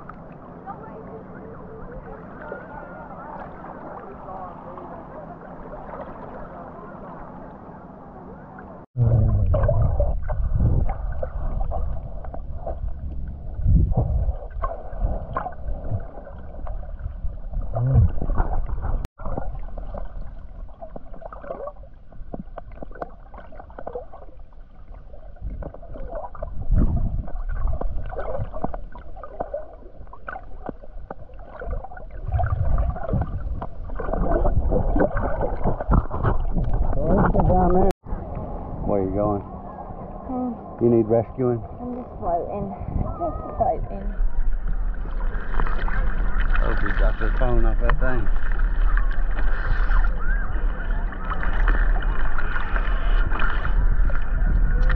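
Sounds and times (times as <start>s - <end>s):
muffled water sloshing and gurgling: 0.0s - 54.9s.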